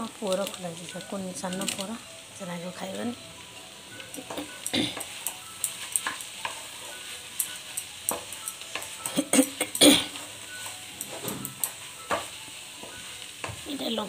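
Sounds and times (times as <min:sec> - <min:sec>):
cabbage sizzling in pan: 0:00.0 - 0:14.0.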